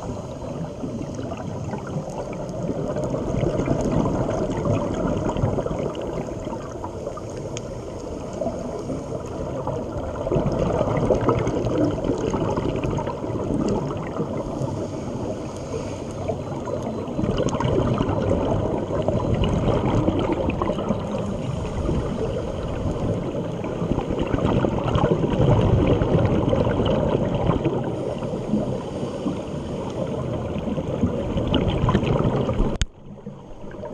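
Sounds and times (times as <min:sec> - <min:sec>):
muffled underwater rushing: 0:00.0 - 0:33.9.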